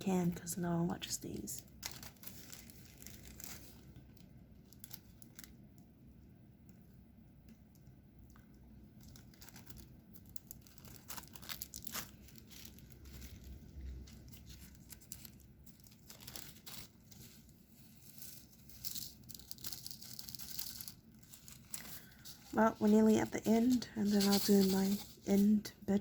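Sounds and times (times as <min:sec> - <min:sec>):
plastic film crinkling: 0:00.0 - 0:05.8, 0:07.8 - 0:25.8.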